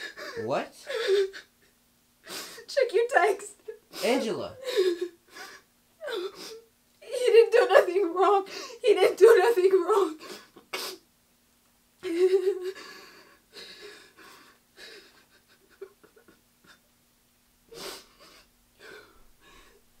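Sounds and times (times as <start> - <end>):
woman crying: 0.0 - 1.7, 2.3 - 11.0, 12.0 - 16.8, 17.8 - 19.7.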